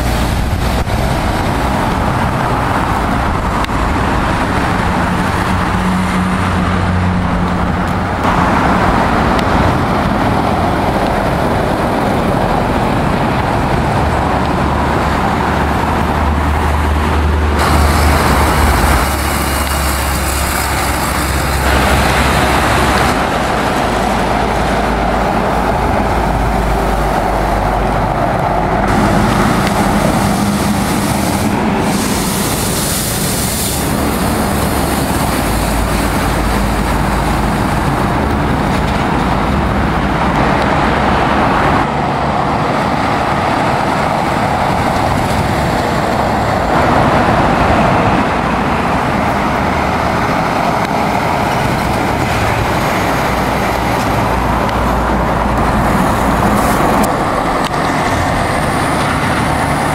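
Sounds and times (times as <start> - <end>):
diesel trucks driving past: 0.0 - 59.9
tyre and traffic noise: 0.0 - 59.9.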